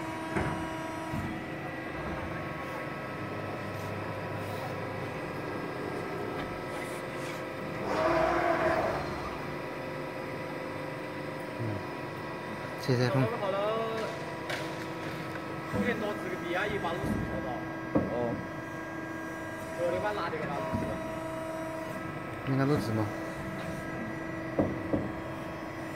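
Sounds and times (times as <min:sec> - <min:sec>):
hydraulic machine hum: 0:00.0 - 0:25.9.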